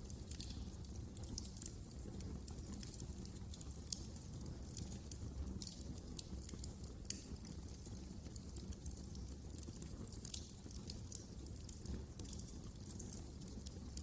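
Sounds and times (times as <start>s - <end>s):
low rumble of flames: 0.0s - 14.0s
wood fire crackling and snapping: 0.0s - 14.0s.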